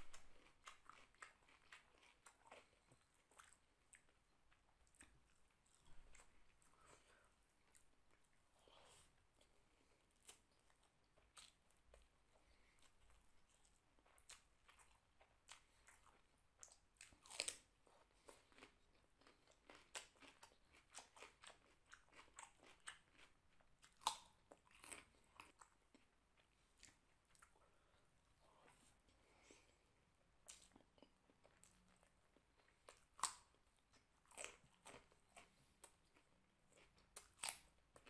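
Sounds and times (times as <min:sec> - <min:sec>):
person chewing and crunching food: 0:00.0 - 0:38.0.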